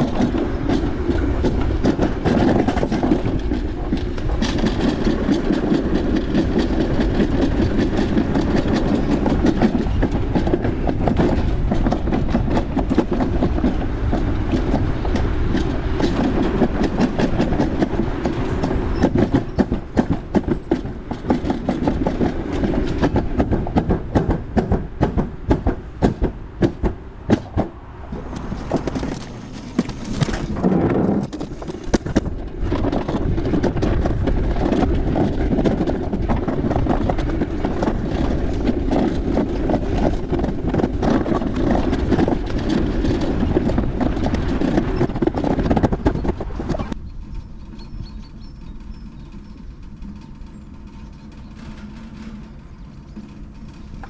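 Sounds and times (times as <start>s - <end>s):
sled rolling along track: 0.0s - 54.0s.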